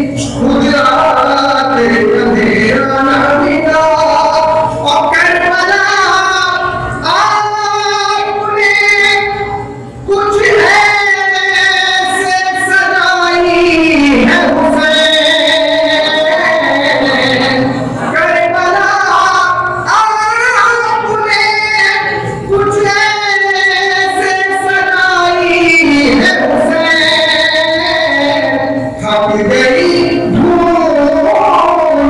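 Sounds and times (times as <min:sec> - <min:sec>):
man chanting into microphone: 0:00.0 - 0:32.0.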